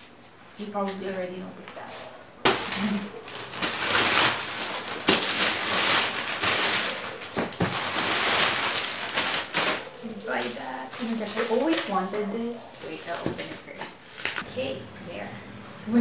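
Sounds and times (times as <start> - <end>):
plastic bag rustling: 0.6 - 14.5.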